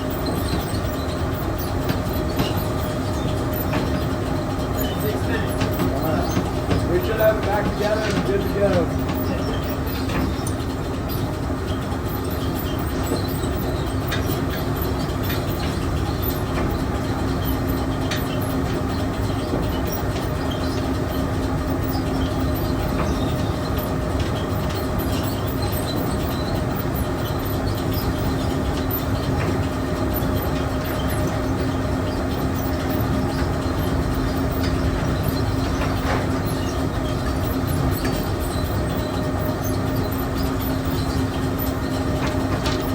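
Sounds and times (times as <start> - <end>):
machinery humming and rattling: 0.0 - 42.9.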